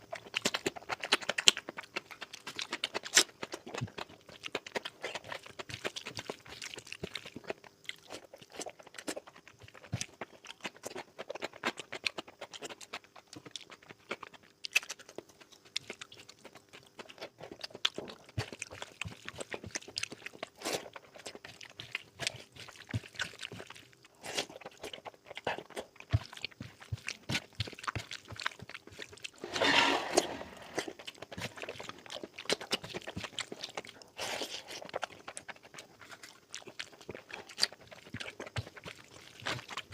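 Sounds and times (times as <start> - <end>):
chewing and mouth sounds: 0.0 - 39.9.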